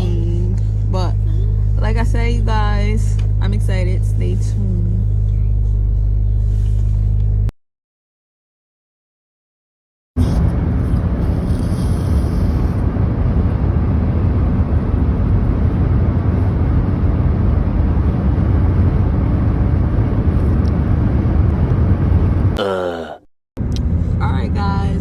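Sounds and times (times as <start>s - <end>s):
car road and engine rumble: 0.0s - 7.5s, 10.2s - 22.6s, 23.6s - 25.0s.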